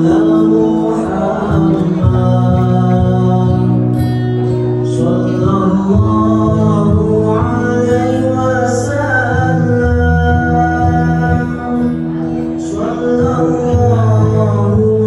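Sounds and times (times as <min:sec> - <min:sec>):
devotional chant singing: 0:00.0 - 0:04.0, 0:04.9 - 0:15.0.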